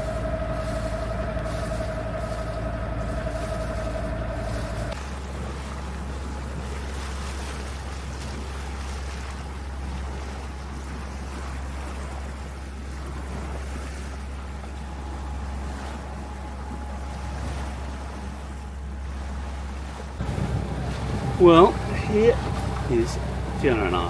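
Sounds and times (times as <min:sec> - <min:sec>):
boat low rumble: 0:00.0 - 0:24.0
wind and water noise: 0:00.0 - 0:24.0.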